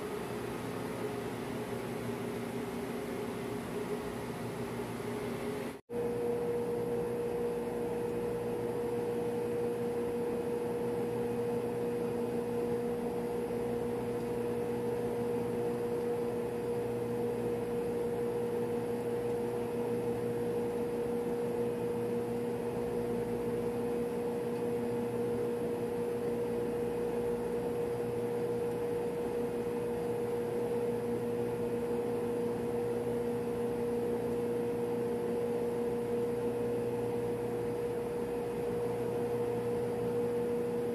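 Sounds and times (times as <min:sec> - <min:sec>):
machinery humming with steady tone: 0:00.0 - 0:40.9.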